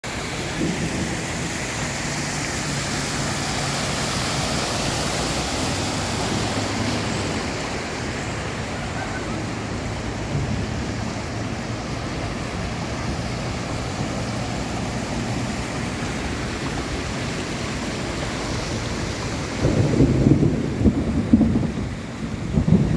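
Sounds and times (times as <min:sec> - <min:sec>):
heavy rain: 0:00.0 - 0:22.9
running water: 0:00.0 - 0:22.9.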